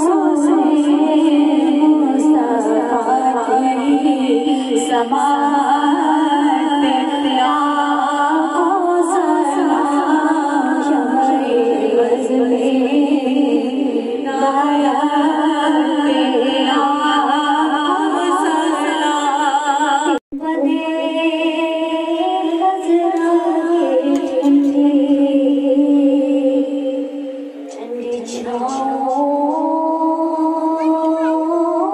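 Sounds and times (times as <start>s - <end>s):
women singing unaccompanied: 0.0s - 31.9s.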